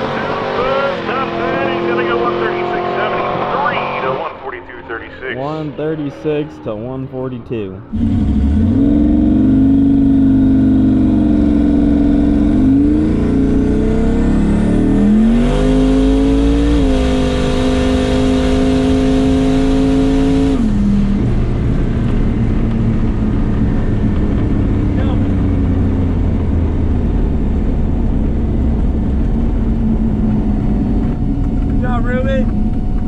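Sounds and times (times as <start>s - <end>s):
turbocharged engine at full throttle: 0.0s - 33.0s.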